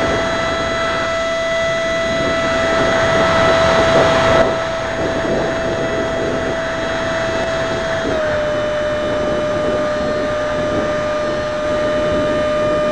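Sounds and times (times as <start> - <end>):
ducted fan high whine: 0.0 - 12.9
rushing air noise: 0.0 - 12.9.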